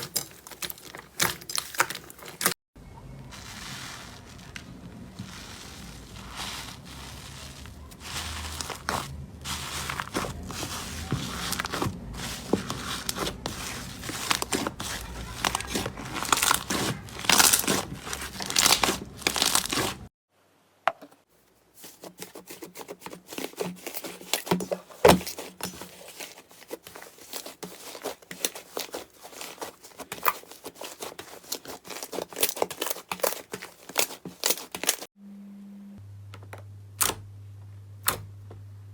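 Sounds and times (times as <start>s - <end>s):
slime squishing and crackling: 0.0s - 2.6s, 3.3s - 20.1s, 21.8s - 35.1s.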